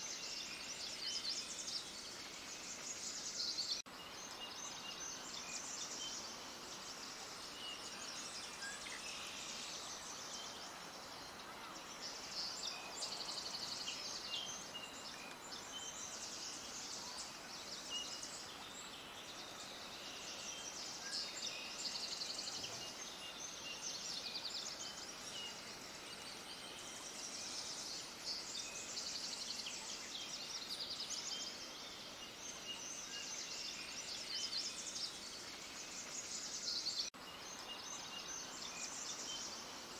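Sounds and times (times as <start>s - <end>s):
faint hiss: 0.0s - 39.9s
small birds chirping: 0.0s - 39.9s.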